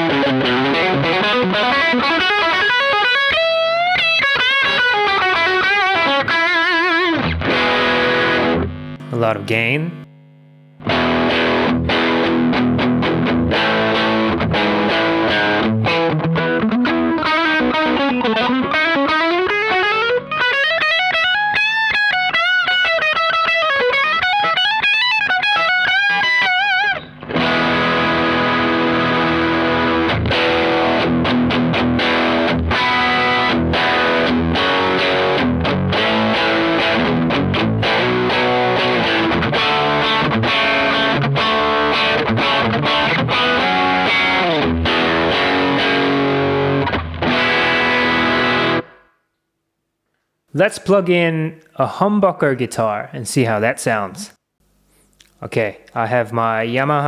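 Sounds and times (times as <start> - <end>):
distorted electric guitar: 0.0 - 49.2.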